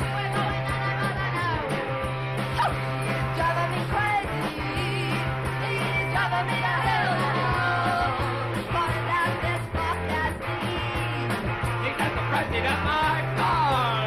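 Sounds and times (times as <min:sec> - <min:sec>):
rock band music: 0:00.0 - 0:14.0
voices singing: 0:00.0 - 0:14.0.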